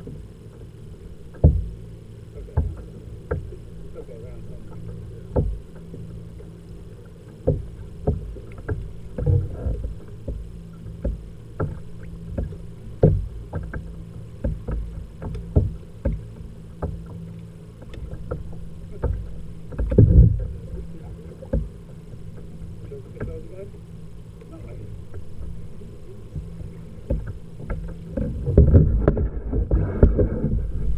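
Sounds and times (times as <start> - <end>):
low rumble of water: 0.0 - 30.9
waves knocking on kayak hull: 0.0 - 30.9.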